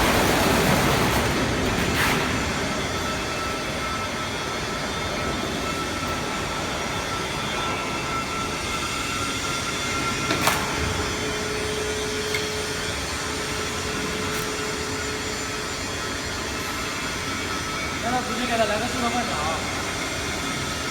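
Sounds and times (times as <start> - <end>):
rewinder machine running: 0.0 - 20.9.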